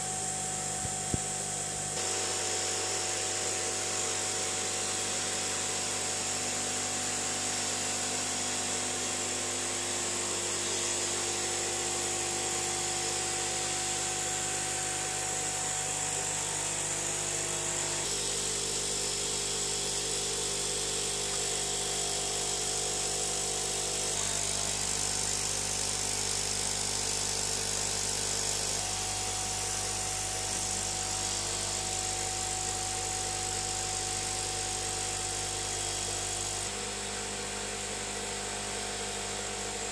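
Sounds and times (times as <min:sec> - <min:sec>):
aquarium air pumps humming: 0:00.0 - 0:39.9.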